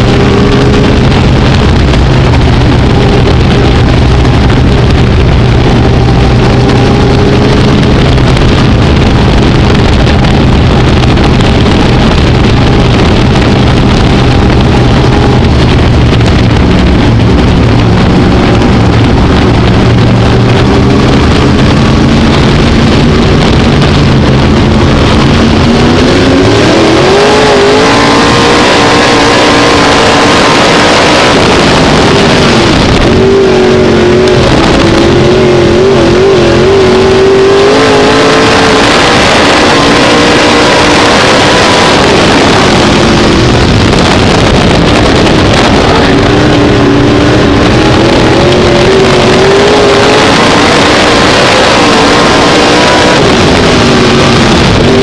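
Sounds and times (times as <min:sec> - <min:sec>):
race car engine running hard: 0:00.0 - 0:55.0.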